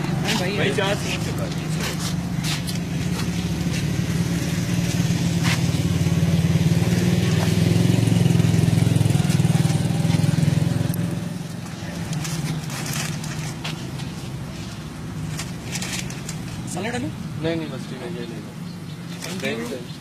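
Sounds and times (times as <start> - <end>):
motor engine humming: 0.0 - 19.1.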